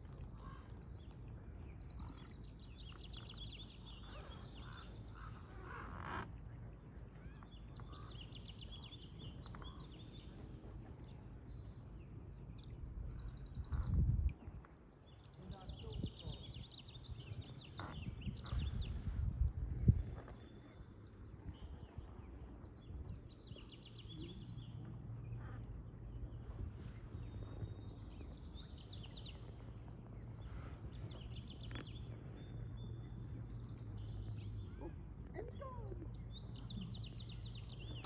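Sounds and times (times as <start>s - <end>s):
songbirds trilling: 0.0s - 38.0s.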